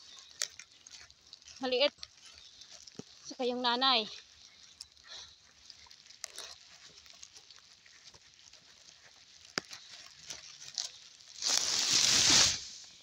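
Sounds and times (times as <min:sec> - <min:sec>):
faint scrapes and ticks: 0:00.0 - 0:13.0
grass bundle rustling: 0:00.0 - 0:13.0.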